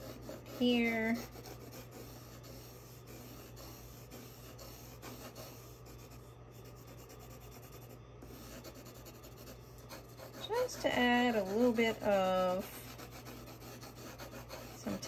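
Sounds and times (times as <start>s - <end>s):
colored pencil shading on paper: 0.0s - 15.0s.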